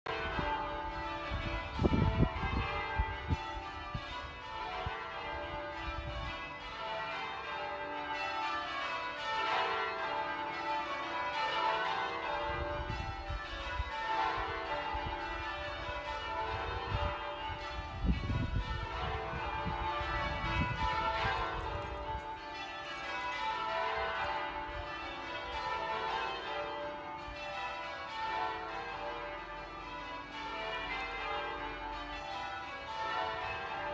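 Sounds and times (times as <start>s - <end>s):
tower bells ringing: 0.1s - 33.9s.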